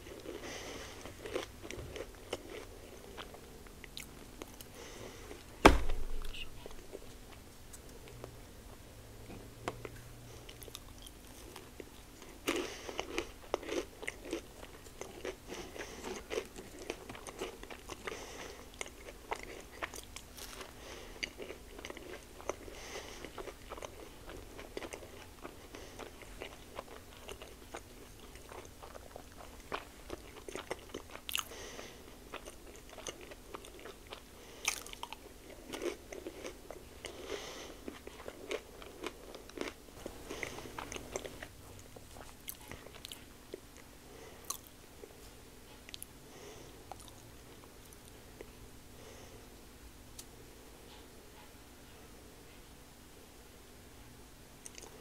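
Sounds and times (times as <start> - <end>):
biting and chewing food: 0.0 - 8.3, 9.3 - 48.6.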